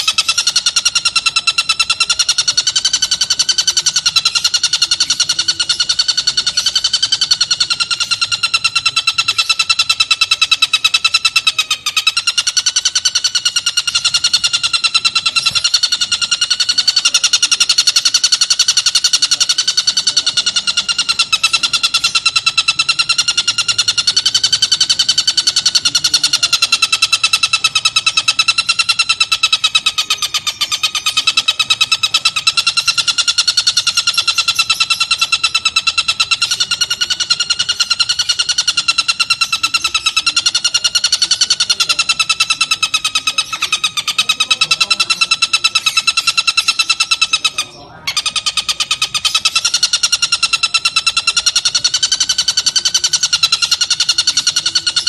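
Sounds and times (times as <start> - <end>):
bird rattling chatter call: 0.0 - 55.0.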